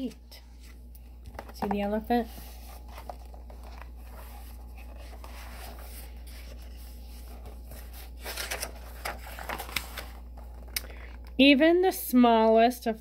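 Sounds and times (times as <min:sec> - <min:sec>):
page turning paper rustle: 0:00.0 - 0:11.4
steady low hum: 0:00.0 - 0:13.0.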